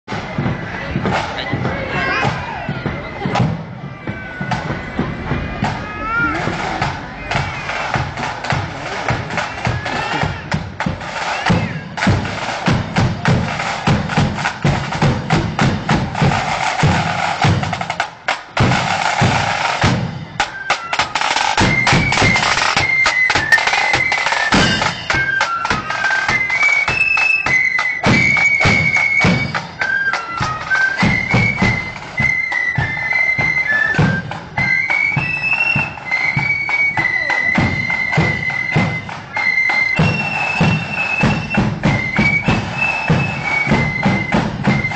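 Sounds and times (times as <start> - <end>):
marching drums: 0.1 - 44.9
high flute melody: 3.9 - 18.0, 18.8 - 44.9.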